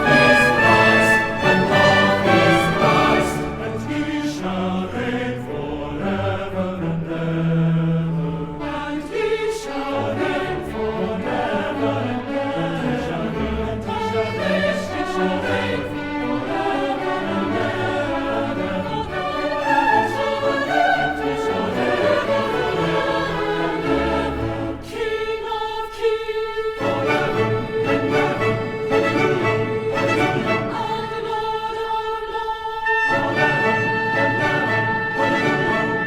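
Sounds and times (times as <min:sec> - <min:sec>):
voices singing long notes: 0:00.0 - 0:07.4, 0:08.8 - 0:36.0
orchestra playing classical music: 0:00.0 - 0:24.8, 0:26.8 - 0:31.4, 0:32.8 - 0:36.0.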